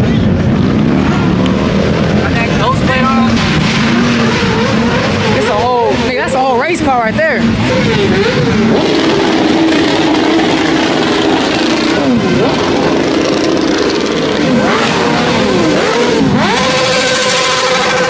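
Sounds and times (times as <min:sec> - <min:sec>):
car engine throttle blips: 0:00.0 - 0:18.0
steady engine drone: 0:00.0 - 0:18.0.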